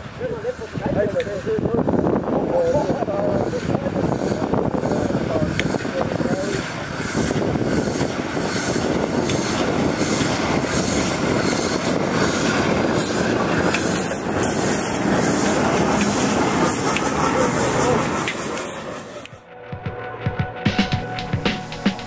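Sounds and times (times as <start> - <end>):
train wheels rolling on rails: 0.0 - 19.4.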